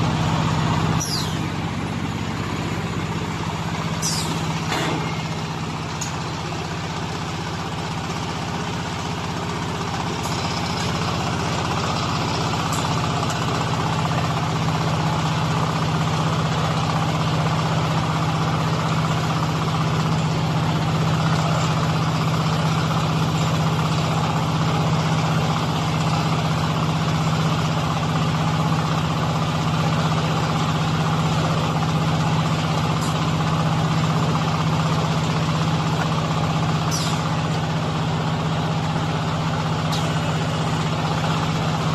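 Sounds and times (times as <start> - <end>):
baler machine humming: 0.0 - 41.9.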